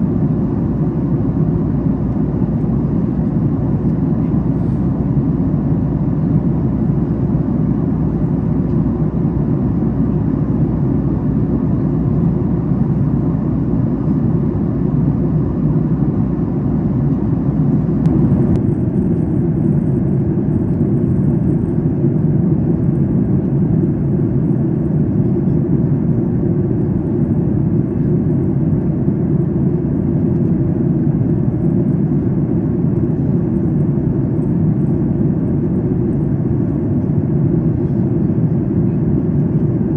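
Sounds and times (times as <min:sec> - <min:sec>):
airplane cabin noise: 0:00.0 - 0:39.9.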